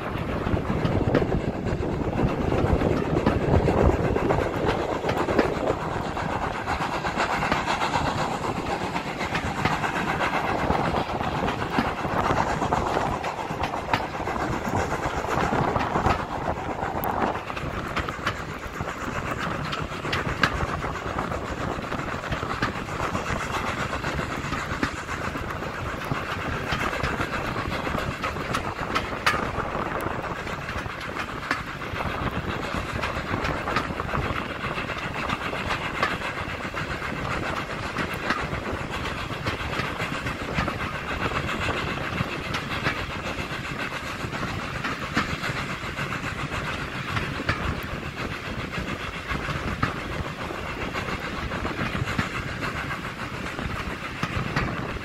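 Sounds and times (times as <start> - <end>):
moving train rumbling: 0.0 - 55.0
wheels clicking on track: 0.0 - 55.0.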